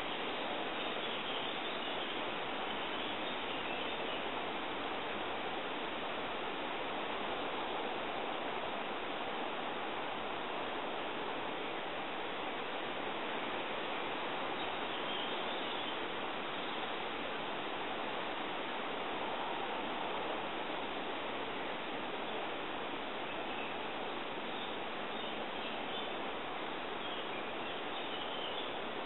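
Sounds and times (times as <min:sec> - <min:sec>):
steady rushing hiss: 0:00.0 - 0:29.0.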